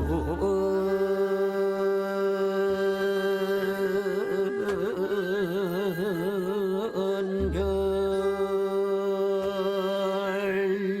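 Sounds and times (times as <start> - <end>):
man singing a long note: 0.0 - 11.0.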